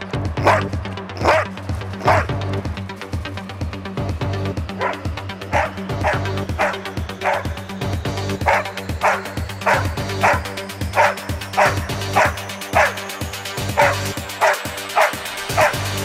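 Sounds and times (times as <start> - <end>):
background music: 0.0 - 16.0
dog barking: 0.4 - 2.4, 4.7 - 16.0.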